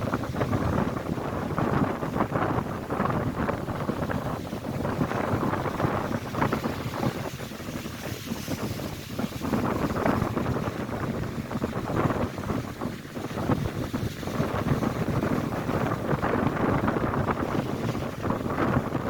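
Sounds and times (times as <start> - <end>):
waves crashing on shore: 0.0 - 19.0
wind buffeting microphone: 0.0 - 19.0.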